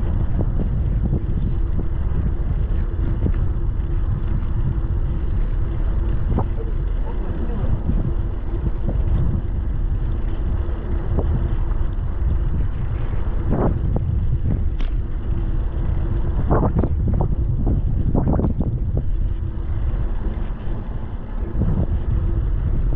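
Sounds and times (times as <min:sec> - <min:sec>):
faint steady hum: 0:00.0 - 0:22.9
low rumble of rolling: 0:00.0 - 0:22.9
wind buffeting microphone: 0:00.0 - 0:22.9.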